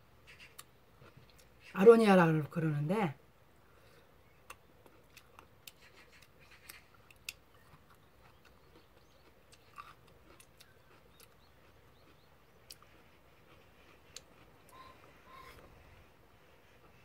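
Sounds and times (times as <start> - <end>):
quiet chewing: 0.3 - 1.7, 3.6 - 17.0.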